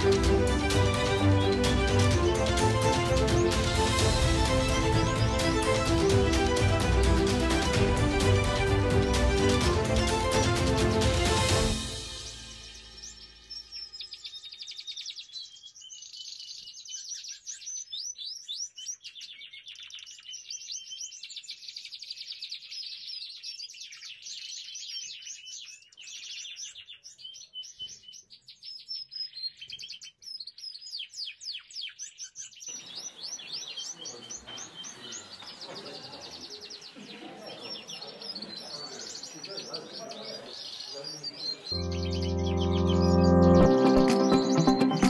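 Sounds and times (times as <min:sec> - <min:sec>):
canaries singing trills: 0:00.0 - 0:06.6, 0:09.4 - 0:45.0.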